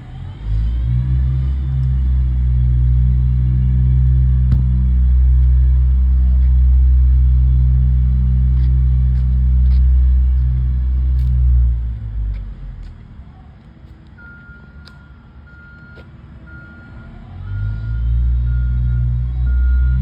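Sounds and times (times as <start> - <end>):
heavy machine engine rumbling: 0.0 - 20.0.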